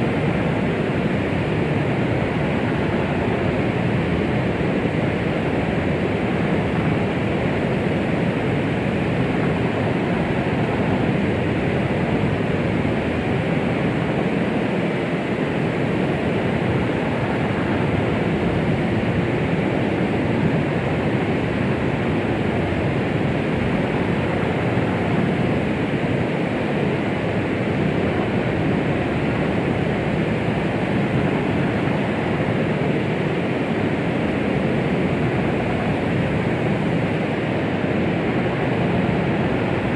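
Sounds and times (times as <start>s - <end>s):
deep rushing white noise: 0.0s - 39.9s.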